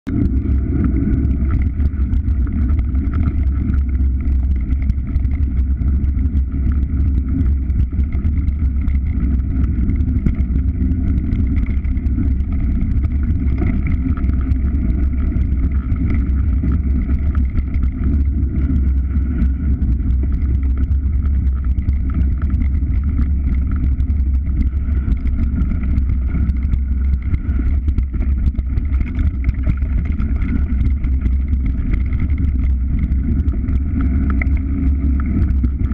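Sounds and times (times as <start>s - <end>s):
vehicle engine running: 0.0s - 35.9s
wind rumble on microphone: 0.0s - 35.9s.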